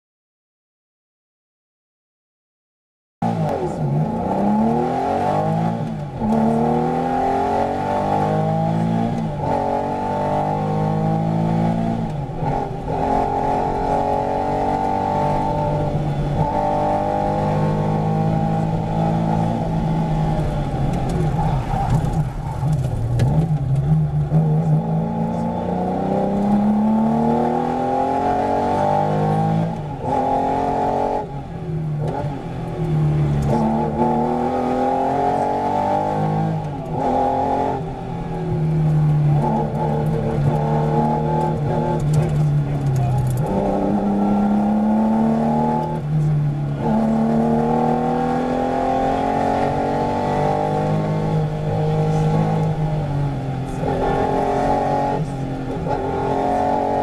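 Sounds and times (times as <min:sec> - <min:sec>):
car engine accelerating hard: 0:03.2 - 0:57.0.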